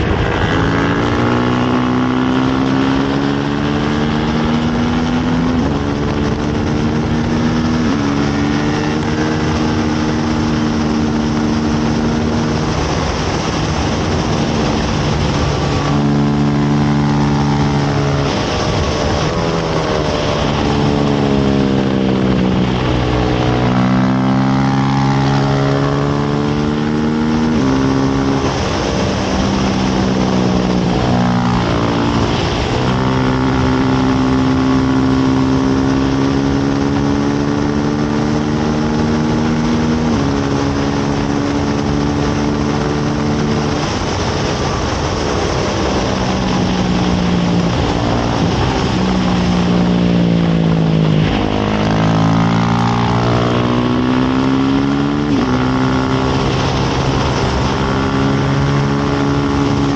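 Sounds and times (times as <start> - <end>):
motorcycle engine at racing revs: 0.0 - 59.9
wind rush: 0.0 - 59.9.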